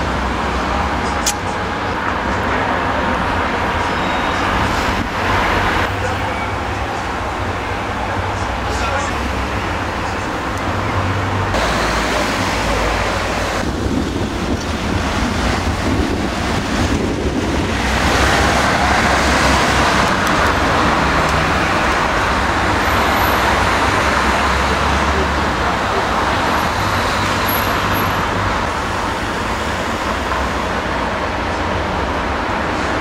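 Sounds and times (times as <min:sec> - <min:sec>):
city traffic roar: 0:00.0 - 0:33.0.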